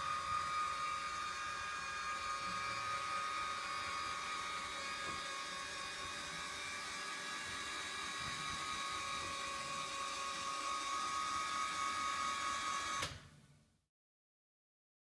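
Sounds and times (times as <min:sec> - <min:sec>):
electric actuator motor whining: 0:00.0 - 0:13.2.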